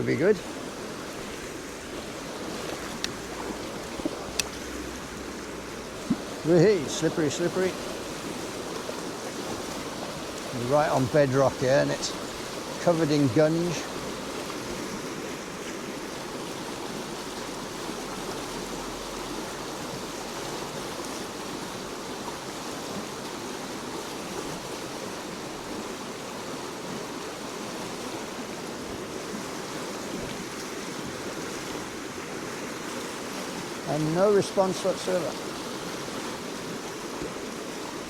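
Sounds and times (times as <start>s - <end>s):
stream water running over rocks: 0.0s - 38.0s.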